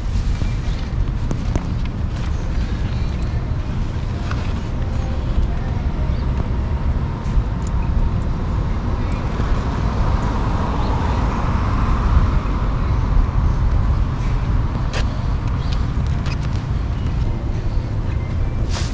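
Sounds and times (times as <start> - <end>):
traffic: 0.0 - 18.9
wind rumble: 0.0 - 18.9.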